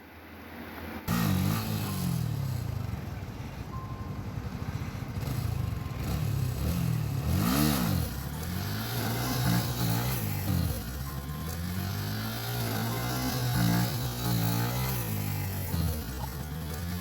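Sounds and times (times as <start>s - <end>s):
motorcycle engine revving: 1.1s - 17.0s.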